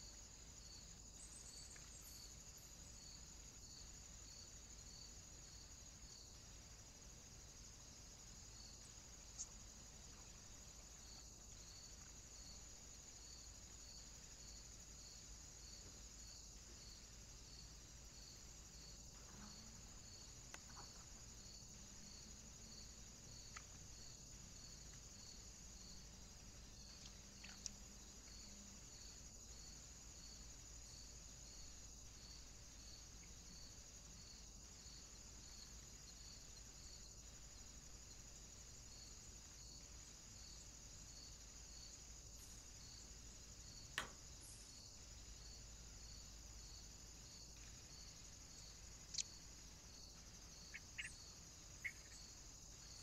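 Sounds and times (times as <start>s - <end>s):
faint high hiss: 0.0s - 53.0s.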